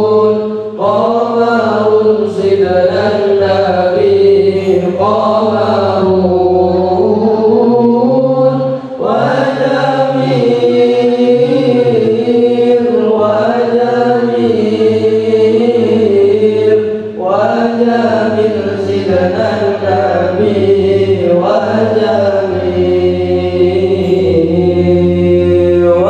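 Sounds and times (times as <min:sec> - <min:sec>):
men chanting devotional song: 0:00.0 - 0:26.0.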